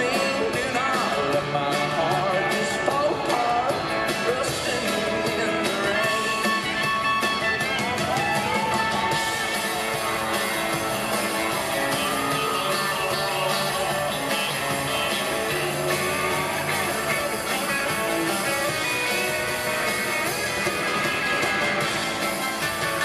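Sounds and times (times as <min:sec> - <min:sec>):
country-rock band playing: 0:00.0 - 0:23.0
electric guitar bending lead lines: 0:00.0 - 0:23.0.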